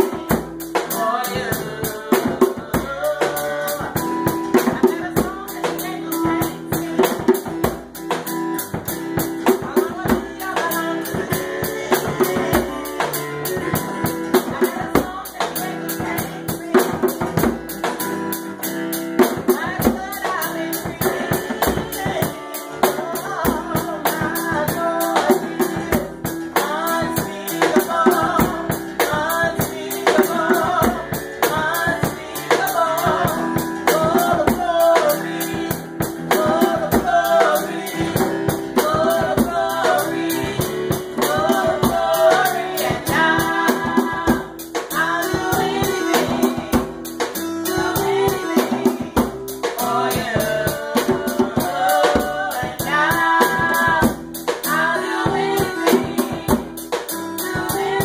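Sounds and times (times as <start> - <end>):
drum kit: 0.0 - 58.0
hand drum: 0.0 - 58.0
keyboard chords: 0.0 - 58.0
people singing: 0.0 - 58.0.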